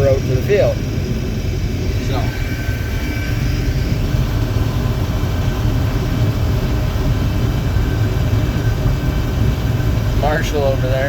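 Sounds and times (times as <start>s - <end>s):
combine harvester rumbling: 0.0s - 11.0s
faint steady whine: 0.0s - 11.0s.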